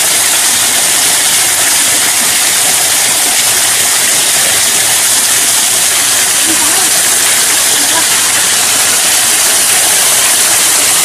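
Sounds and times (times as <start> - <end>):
waterfall onto wet stone: 0.0 - 11.0.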